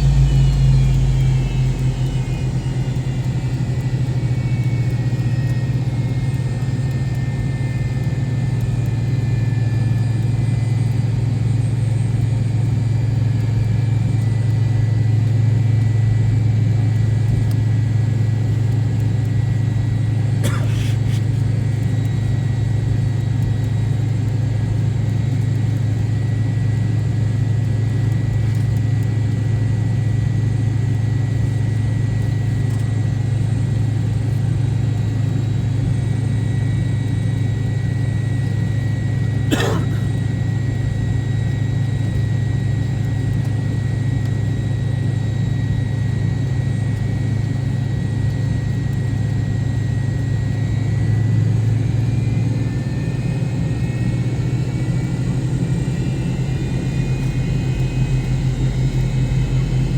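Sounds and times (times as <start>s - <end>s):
jet engines humming and whining: 0.0s - 59.9s.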